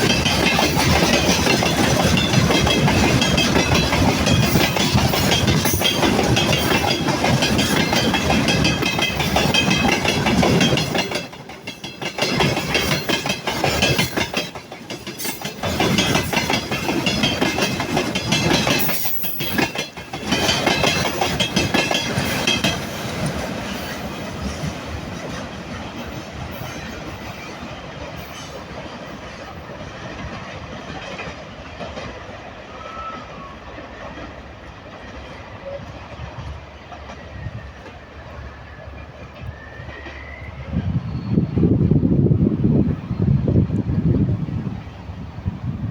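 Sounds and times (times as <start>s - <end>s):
train wheels clattering: 0.0s - 41.7s.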